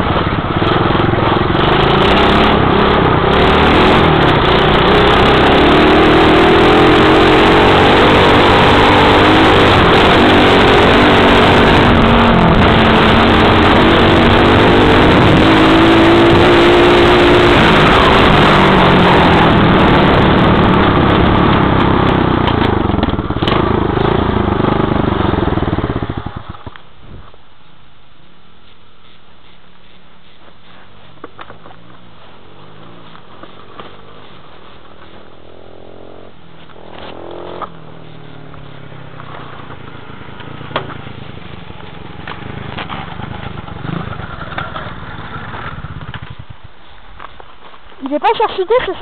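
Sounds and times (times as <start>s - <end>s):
dirt bike engine revving: 0.0s - 26.6s, 31.8s - 46.4s.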